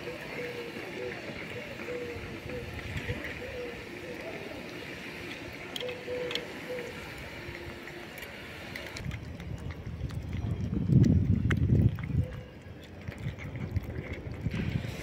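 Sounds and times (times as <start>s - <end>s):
cats chewing and licking food: 0.0s - 15.0s
street background hum: 0.0s - 15.0s.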